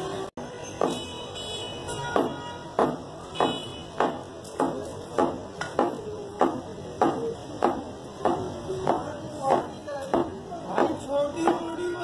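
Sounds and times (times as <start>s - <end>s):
cleaver chopping meat on wood: 0.8s - 1.0s, 2.1s - 11.8s.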